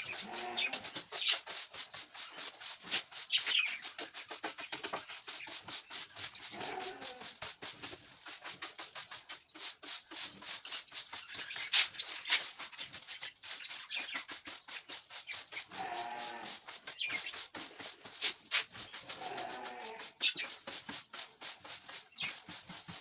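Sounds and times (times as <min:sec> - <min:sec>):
dry gourd scratching and crackling: 0:00.0 - 0:23.0.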